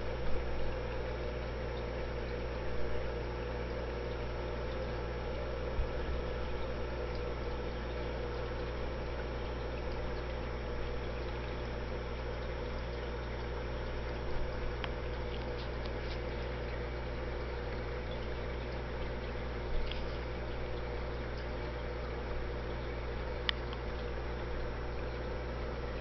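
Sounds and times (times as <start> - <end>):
aquarium pump humming: 0.0 - 26.0.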